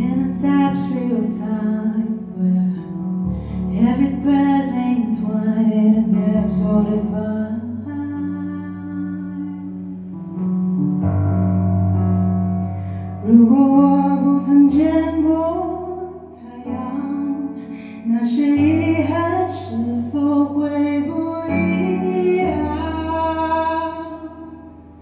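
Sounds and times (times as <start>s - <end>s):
woman singing: 0.0s - 2.9s, 3.7s - 10.0s, 13.2s - 24.7s
keyboard chords with bass: 0.0s - 25.0s.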